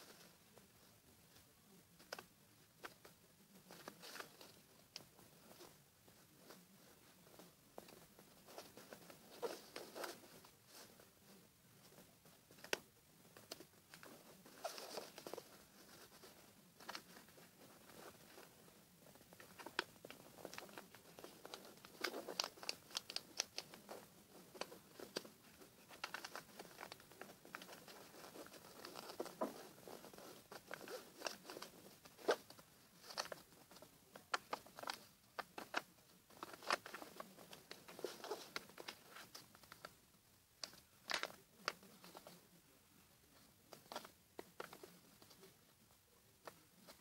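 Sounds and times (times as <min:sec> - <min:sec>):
paper rustling and crinkling: 0:01.9 - 0:40.0, 0:40.6 - 0:42.5.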